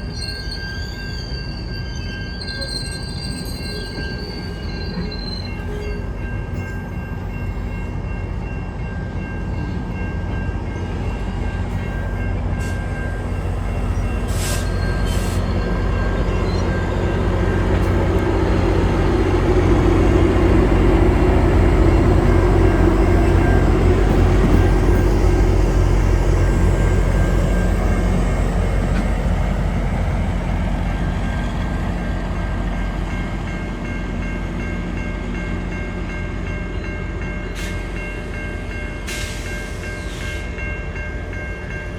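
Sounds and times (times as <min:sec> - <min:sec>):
train rolling past on rails: 0:00.0 - 0:41.9.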